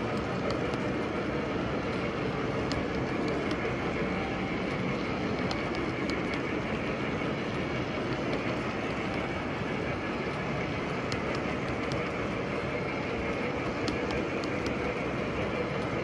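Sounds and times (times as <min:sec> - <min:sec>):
model train wheels rumbling on track: 0:00.0 - 0:16.0.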